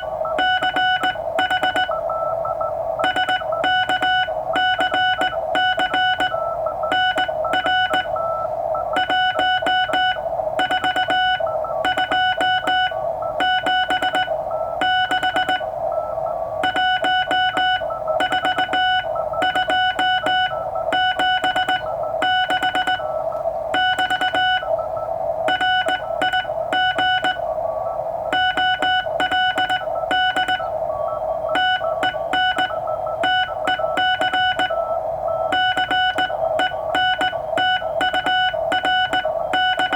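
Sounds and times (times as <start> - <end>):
morse code tone: 0.0 - 39.9
receiver hiss: 0.0 - 39.9.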